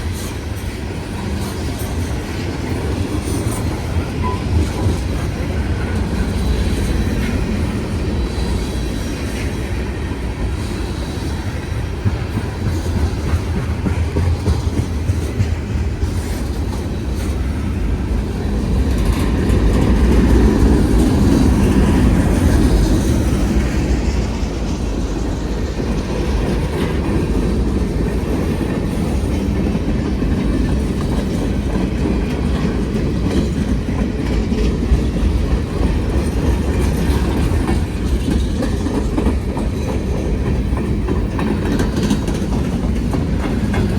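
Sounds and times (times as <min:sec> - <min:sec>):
freight train rumbling: 0:00.0 - 0:43.9
wheels clacking over rail joints: 0:00.1 - 0:43.9.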